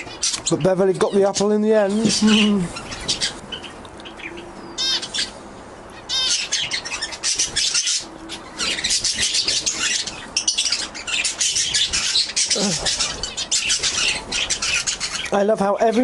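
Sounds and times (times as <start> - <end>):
canaries chirping and singing: 0.0 - 16.0.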